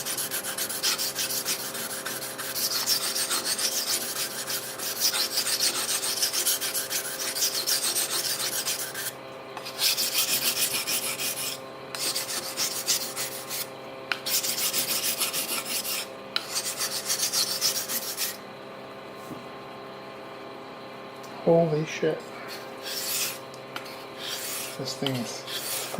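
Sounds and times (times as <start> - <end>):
knife rasping on sharpener: 0.0 - 18.4, 22.5 - 25.9.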